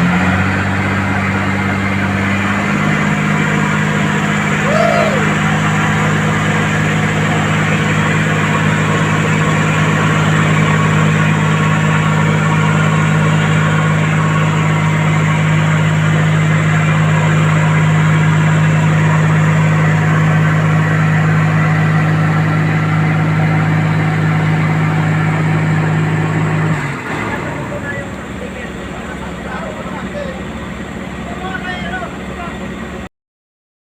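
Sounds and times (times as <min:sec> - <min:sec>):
diesel engine running: 0:00.0 - 0:33.1.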